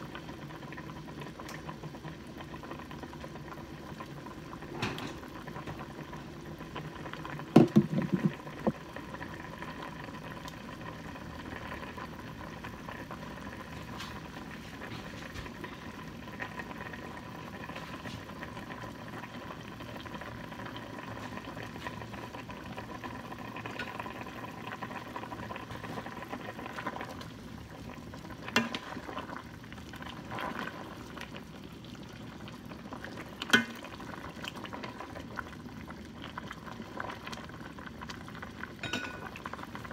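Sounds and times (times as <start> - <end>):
soup bubbling in a stockpot: 0.0 - 39.9.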